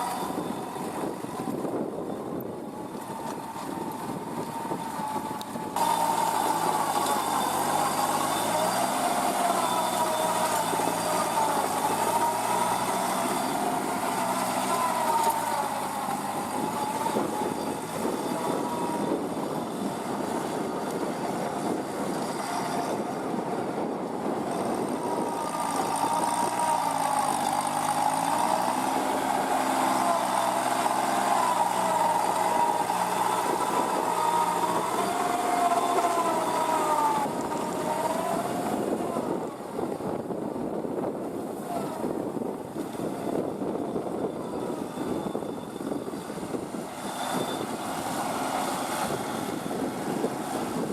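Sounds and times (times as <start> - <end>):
tractor diesel engine under load: 0.0 - 50.9
wavering whine: 0.0 - 50.9.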